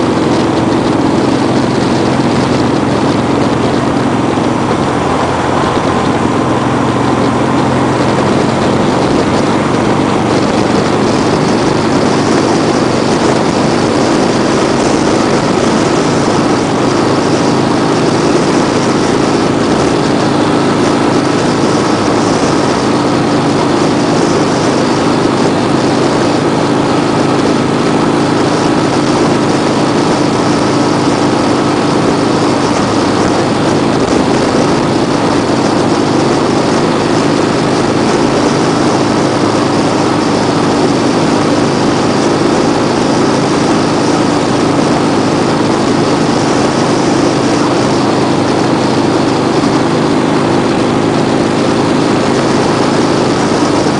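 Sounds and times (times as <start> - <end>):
vehicle engine and road noise: 0.0 - 53.9.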